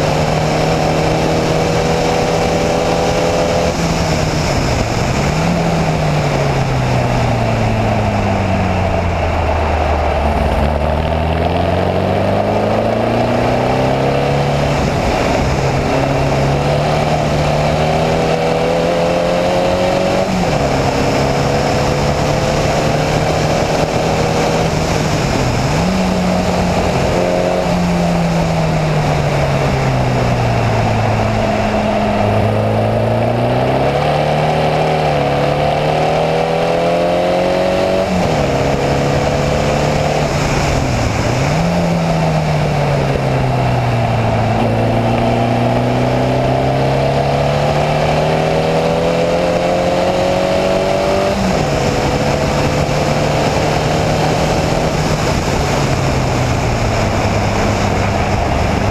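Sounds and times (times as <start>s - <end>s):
race car engine at speed: 0.0s - 58.9s
wind rush: 0.0s - 58.9s.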